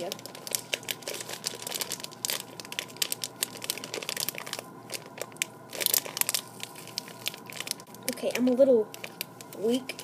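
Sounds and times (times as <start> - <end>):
plastic candy bag crinkling: 0.0 - 10.0.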